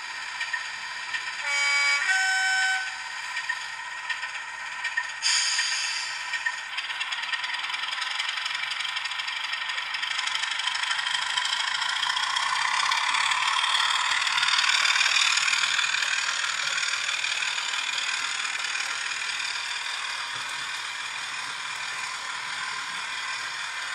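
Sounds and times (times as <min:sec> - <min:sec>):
diesel engine sound through small speaker: 0:00.0 - 0:23.9
model train wheels clattering: 0:00.0 - 0:23.9.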